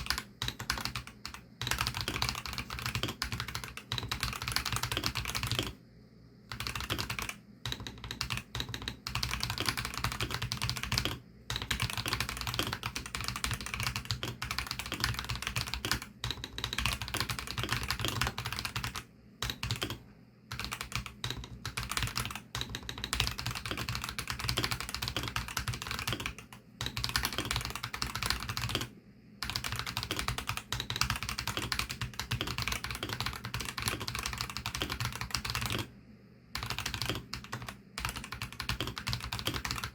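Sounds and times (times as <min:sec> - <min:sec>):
fast mechanical keyboard typing: 0:00.0 - 0:05.8, 0:06.5 - 0:35.9, 0:36.6 - 0:39.9.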